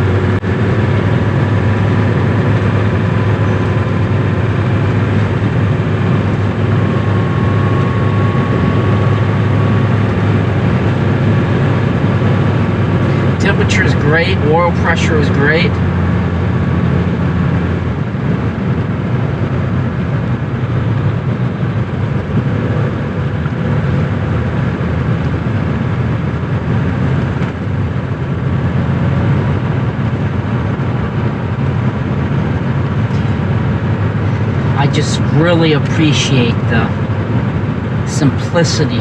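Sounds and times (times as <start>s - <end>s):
diesel car engine running: 0.0s - 39.0s
road noise: 0.0s - 39.0s.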